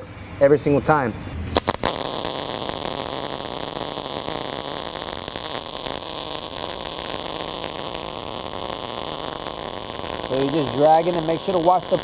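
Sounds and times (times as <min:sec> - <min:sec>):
welding arc crackling: 0:01.5 - 0:12.0.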